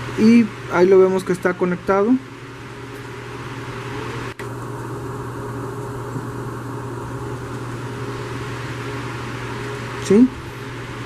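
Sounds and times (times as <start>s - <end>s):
fan machine humming: 0.0s - 11.0s.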